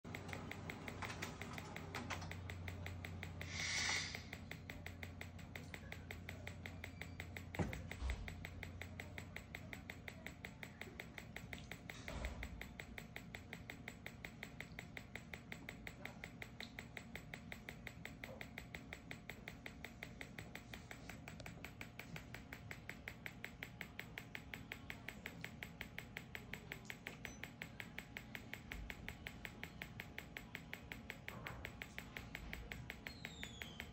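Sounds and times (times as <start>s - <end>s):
machine fast clicking: 0.0s - 33.9s.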